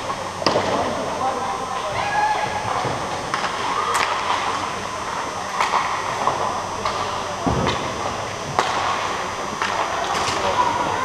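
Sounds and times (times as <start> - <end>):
hubbub of voices: 0.0 - 11.0.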